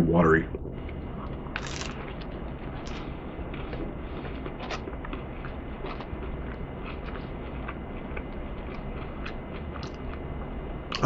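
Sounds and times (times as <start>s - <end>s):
steady low hum: 0.0s - 11.0s
person chewing crunchy food: 1.1s - 11.0s.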